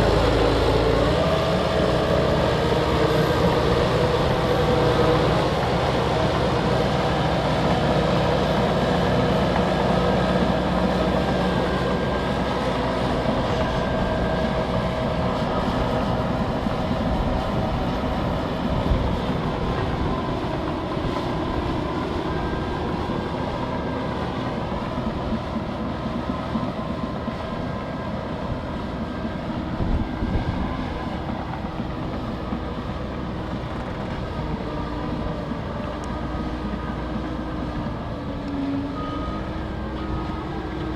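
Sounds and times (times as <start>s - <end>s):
heavy diesel engines under load: 0.0s - 40.9s
steel tracks grinding: 0.0s - 40.9s.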